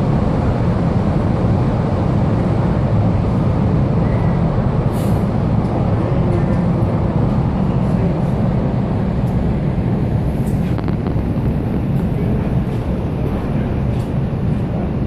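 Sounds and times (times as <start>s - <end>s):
ship engines rumbling: 0.0s - 15.0s.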